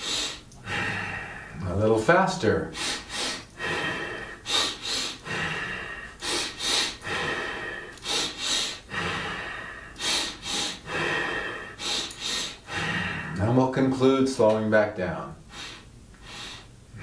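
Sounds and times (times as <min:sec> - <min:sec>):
man breathing in and out sharply: 0:00.0 - 0:01.6, 0:02.6 - 0:13.4, 0:15.4 - 0:17.0.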